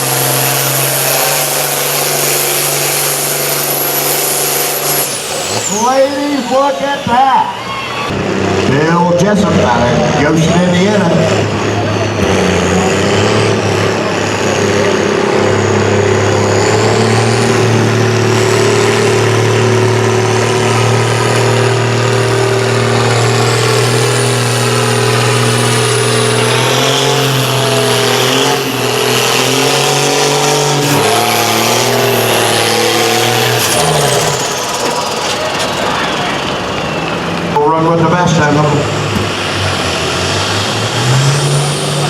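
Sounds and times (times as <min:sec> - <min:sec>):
high whine: 0:00.0 - 0:39.2
tractor engine under load: 0:00.0 - 0:42.0.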